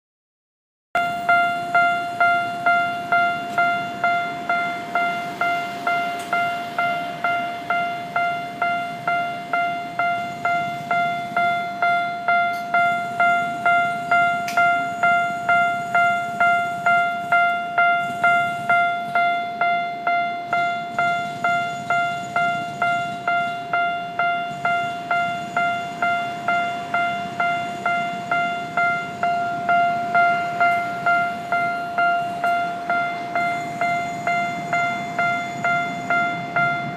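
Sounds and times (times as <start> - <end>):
level-crossing warning bell: 1.0 - 36.9.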